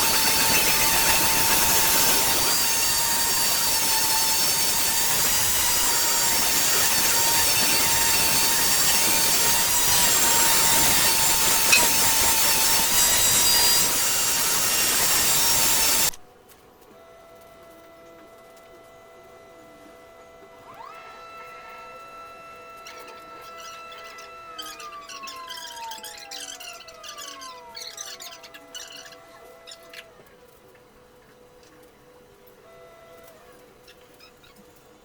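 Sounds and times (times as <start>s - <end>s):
power woodworking tool whirring: 0.0s - 16.2s, 16.9s - 31.5s.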